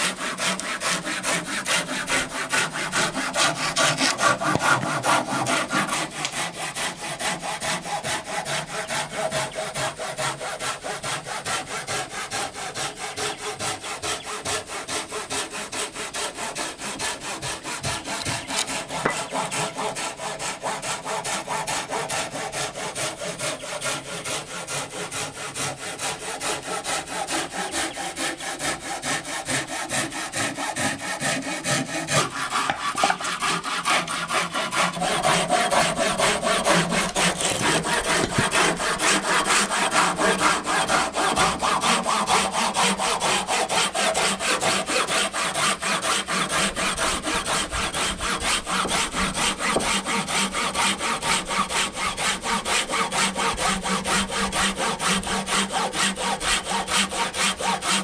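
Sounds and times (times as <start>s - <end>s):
hand saw cutting wood: 0.0s - 58.0s.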